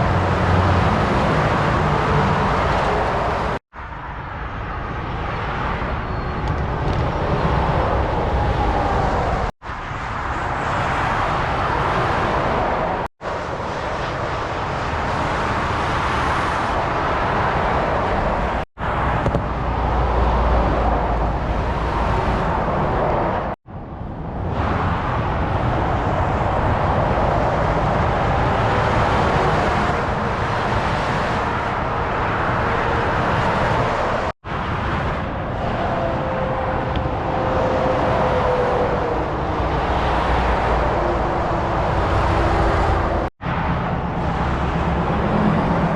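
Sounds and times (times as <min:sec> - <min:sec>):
heavy motorway traffic rushing: 0:00.0 - 0:45.9.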